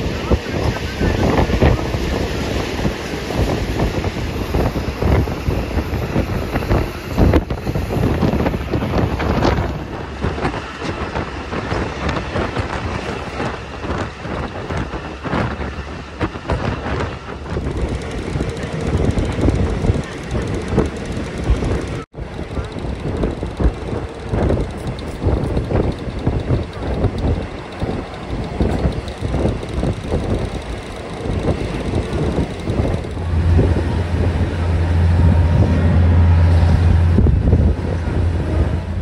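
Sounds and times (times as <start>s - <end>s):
train rumble and rattle: 0.0s - 39.0s
wind buffeting microphone: 0.0s - 39.0s.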